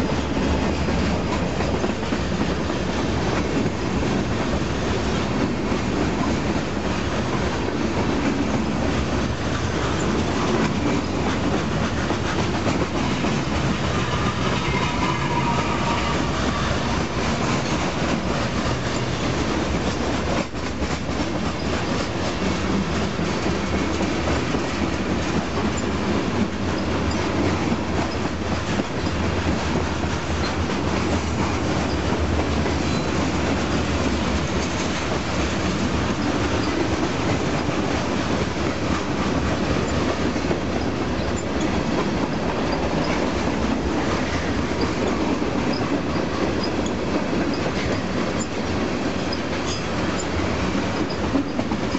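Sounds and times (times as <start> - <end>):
freight train rumbling past: 0.0 - 51.9
wheels clicking over rail joints: 0.0 - 51.9.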